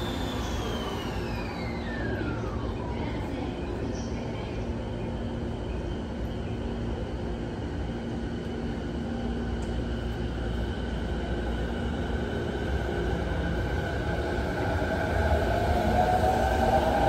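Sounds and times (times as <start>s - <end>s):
train motors humming and whining: 0.0s - 17.0s.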